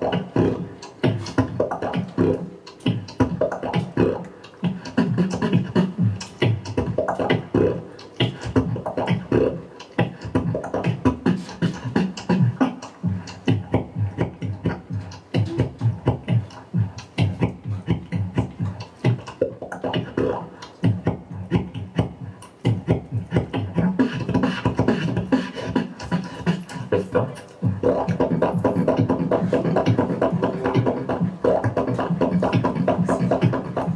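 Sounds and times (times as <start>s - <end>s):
person beatboxing: 0.0s - 33.9s.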